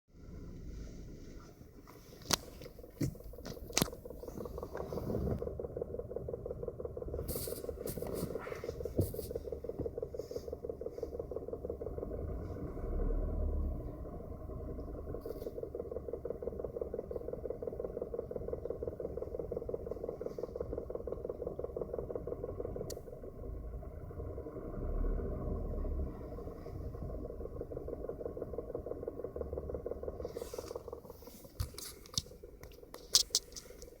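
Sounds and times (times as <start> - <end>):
car engine idling with knock: 0.1 - 34.0
low rumble: 0.1 - 34.0.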